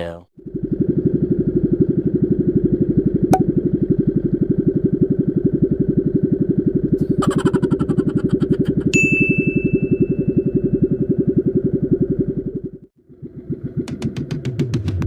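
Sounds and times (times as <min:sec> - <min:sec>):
small engine chugging: 0:00.4 - 0:15.0.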